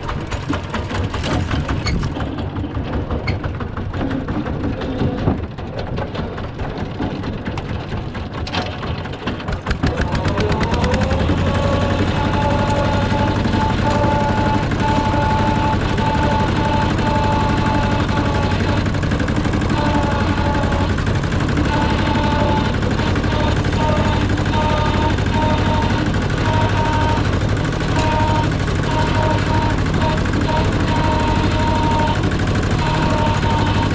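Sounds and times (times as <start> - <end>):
combine harvester engine revving: 0.0 - 33.9.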